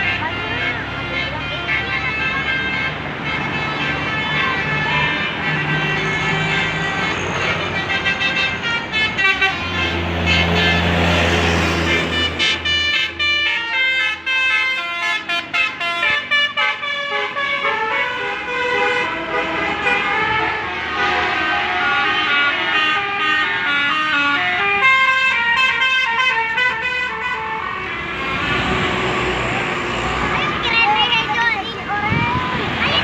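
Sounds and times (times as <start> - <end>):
bus engine drone: 0.0 - 33.0
musical bus horn: 0.0 - 33.0.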